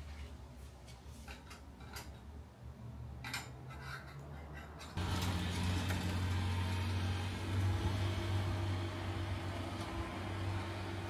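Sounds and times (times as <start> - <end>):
low outdoor hum: 0.0 - 11.0
distant traffic: 1.9 - 11.0.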